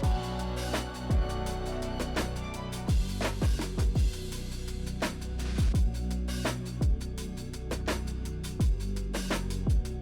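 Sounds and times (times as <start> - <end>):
electronic music with deep kick drum: 0.0 - 10.0.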